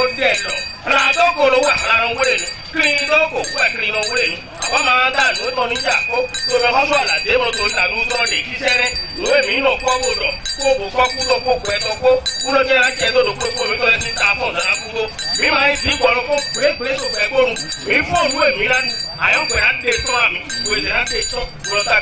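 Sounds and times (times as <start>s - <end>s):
bell ringing: 0.0s - 22.0s
voices chanting: 0.0s - 22.0s.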